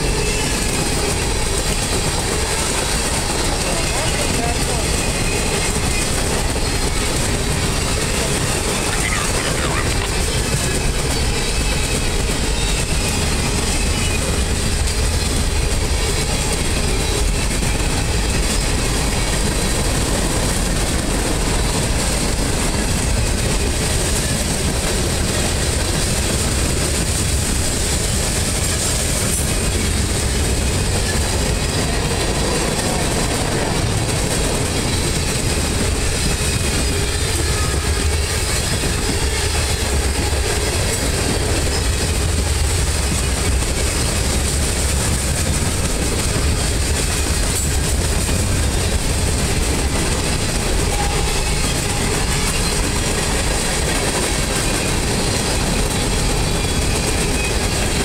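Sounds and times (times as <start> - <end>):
freight train rolling on rails: 0.0 - 58.0.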